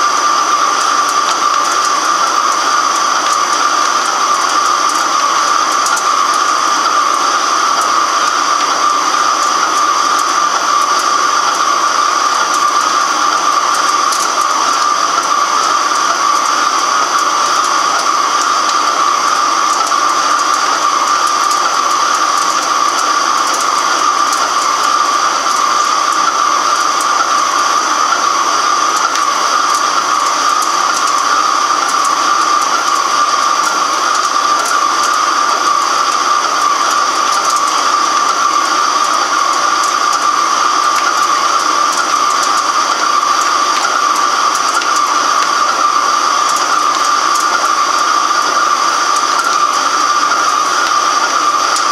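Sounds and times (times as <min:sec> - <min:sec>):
lathe cutting metal: 0:00.0 - 0:51.9.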